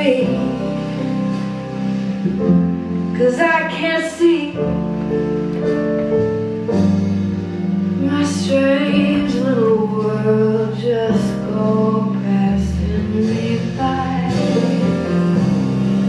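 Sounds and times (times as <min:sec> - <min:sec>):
slow song with held notes: 0:00.0 - 0:16.0.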